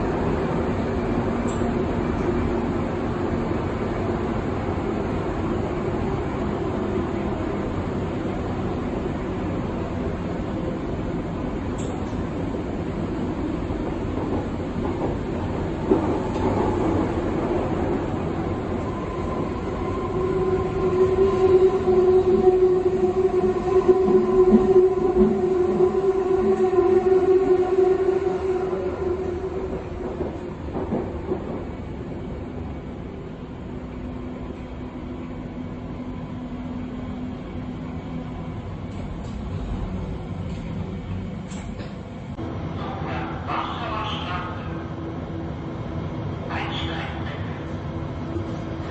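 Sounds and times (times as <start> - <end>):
multi-tone train whine: 0.0 - 48.9
train wheels rumbling on track: 0.0 - 48.9.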